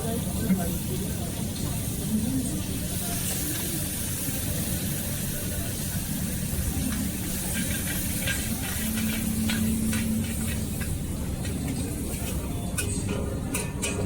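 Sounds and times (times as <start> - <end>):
steady hum: 0.0 - 14.0
wok sizzling over gas burner: 0.0 - 14.0.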